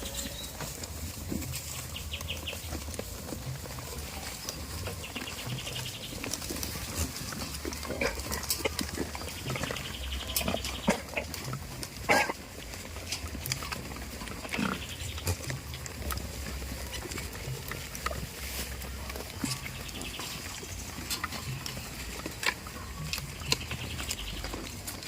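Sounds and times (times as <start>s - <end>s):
goats grunting: 0.0s - 25.0s.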